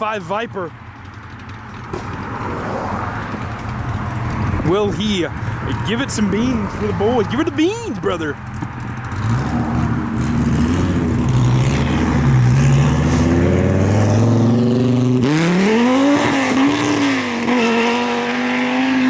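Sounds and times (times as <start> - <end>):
car engine accelerating hard: 1.2 - 19.0.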